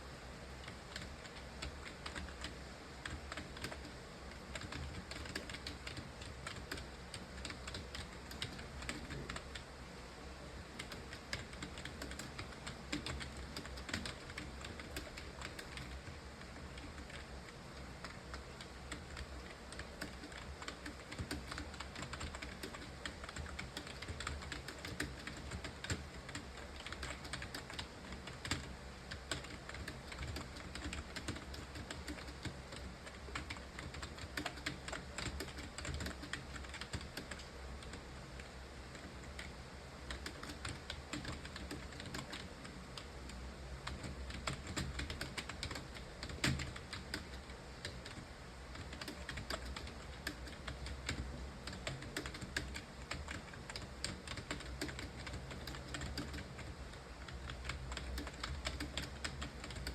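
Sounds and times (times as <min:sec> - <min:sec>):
fast typing on keyboard: 0:00.6 - 0:09.7, 0:10.8 - 0:59.9.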